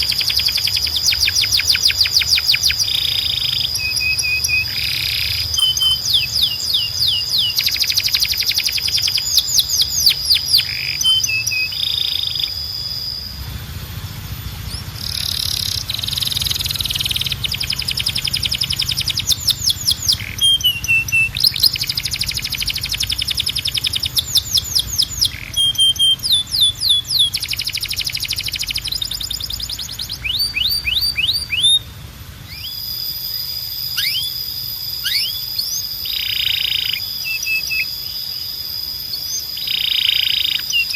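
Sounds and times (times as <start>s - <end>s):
canary singing: 0.0s - 40.9s
faint low hum: 0.0s - 40.9s.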